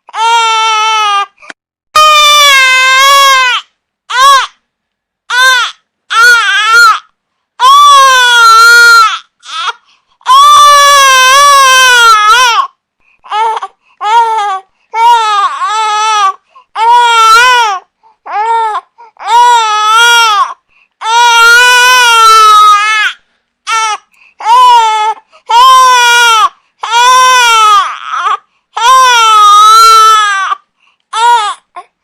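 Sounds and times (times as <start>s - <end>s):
infant crying: 0.1s - 1.4s, 2.0s - 4.6s, 5.3s - 32.0s.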